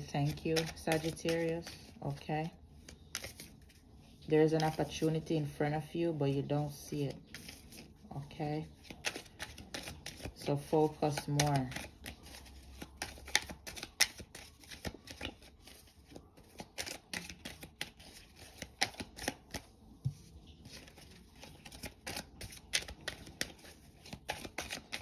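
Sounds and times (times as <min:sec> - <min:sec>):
cards being shuffled: 0:00.0 - 0:02.2, 0:02.8 - 0:05.1, 0:07.2 - 0:08.0, 0:08.7 - 0:25.0.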